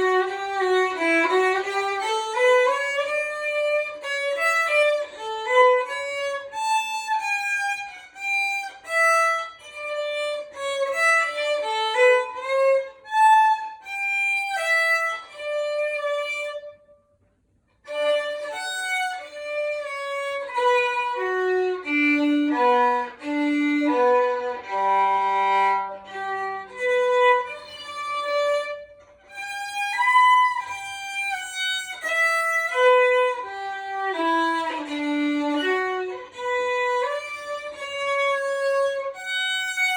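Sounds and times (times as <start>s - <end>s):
solo instrumental melody: 0.0s - 17.2s, 17.8s - 39.9s.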